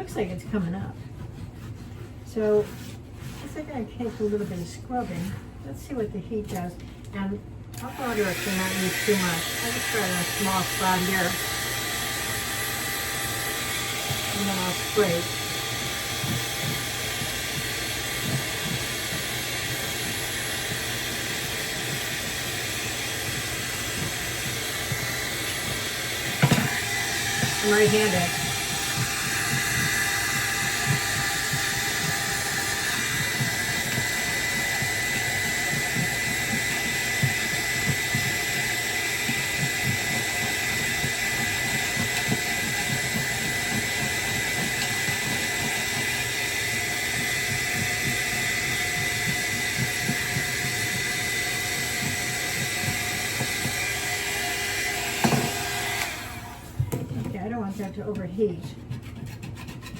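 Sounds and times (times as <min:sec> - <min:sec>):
hair dryer running: 0:07.8 - 0:58.0.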